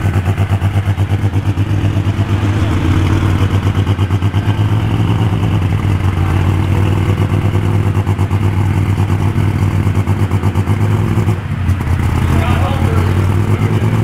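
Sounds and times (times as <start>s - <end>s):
tractor engine running at high revs: 0.0s - 14.0s.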